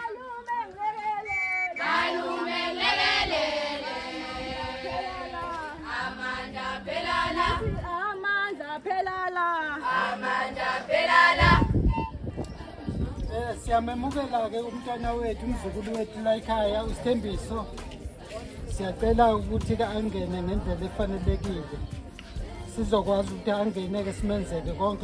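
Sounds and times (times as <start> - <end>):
women singing chant-like choral song: 0.0 - 19.1, 19.9 - 25.0.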